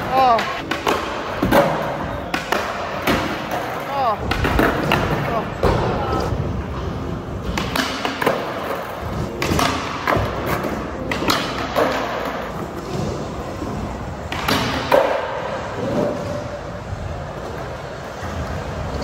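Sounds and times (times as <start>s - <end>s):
skateboard impacts: 0.0s - 6.5s, 7.4s - 16.6s
skateboard wheels rolling: 0.0s - 19.0s.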